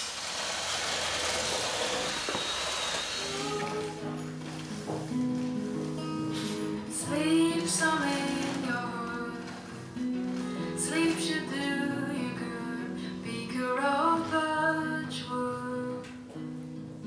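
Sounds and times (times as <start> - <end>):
song with voice and guitar: 3.3 - 17.0.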